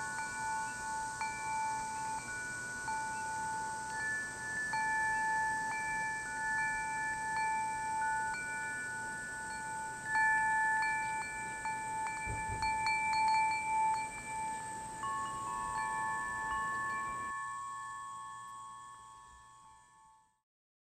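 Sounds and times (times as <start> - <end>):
chimes ringing: 0.0 - 20.3.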